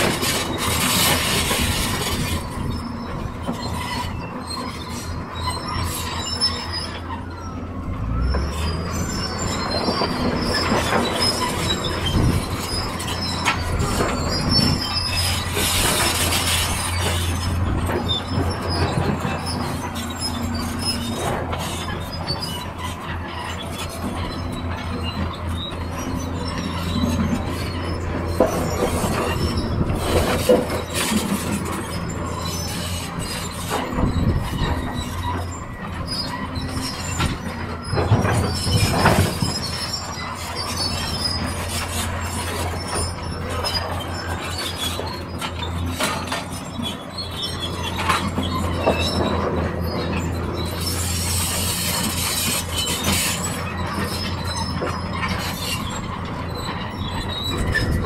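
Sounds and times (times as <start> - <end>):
diesel engines humming: 0.0 - 58.0.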